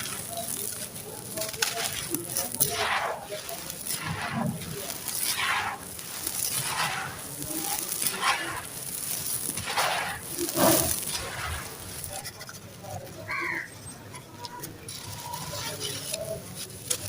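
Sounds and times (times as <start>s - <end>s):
sand and charcoal crunching: 0.0s - 17.0s.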